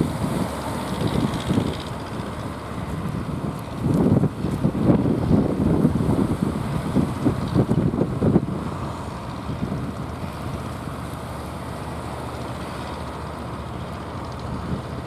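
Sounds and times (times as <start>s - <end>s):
wind buffeting microphone: 0.0s - 11.1s, 14.0s - 15.0s
boat engine running: 0.0s - 15.0s.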